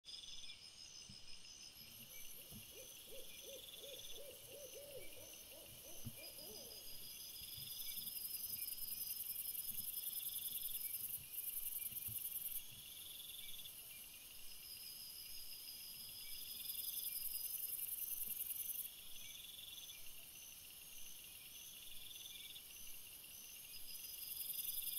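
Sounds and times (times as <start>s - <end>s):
night insects chirping: 0.1s - 24.9s.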